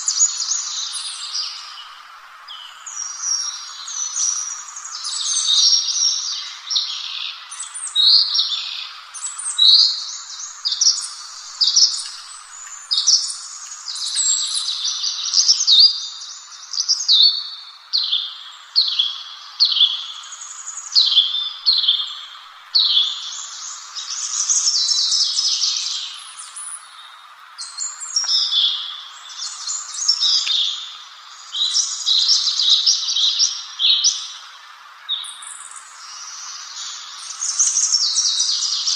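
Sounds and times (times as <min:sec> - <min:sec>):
songbird singing: 0:00.0 - 0:38.9
steady background hiss: 0:00.0 - 0:38.9.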